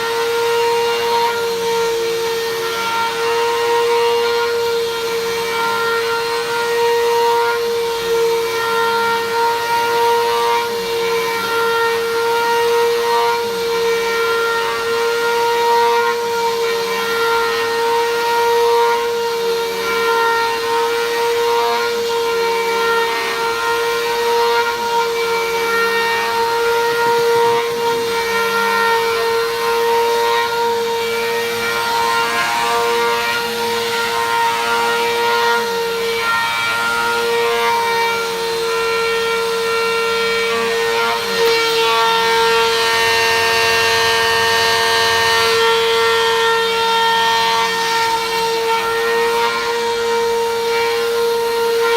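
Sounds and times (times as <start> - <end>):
vacuum cleaner motor whining: 0.0 - 51.9.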